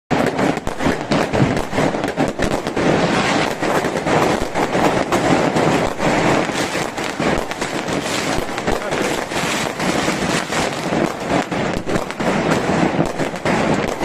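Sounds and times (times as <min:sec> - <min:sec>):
fireworks bangs and crackles: 0:00.1 - 0:14.0.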